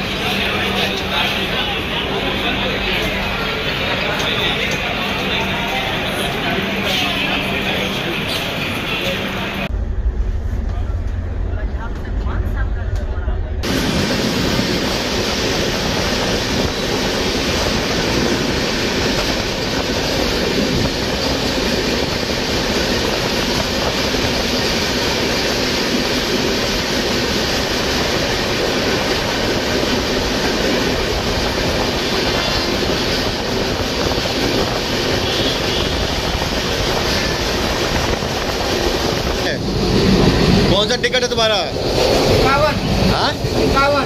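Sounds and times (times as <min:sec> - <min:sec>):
train wheels on rails: 0:00.0 - 0:44.0.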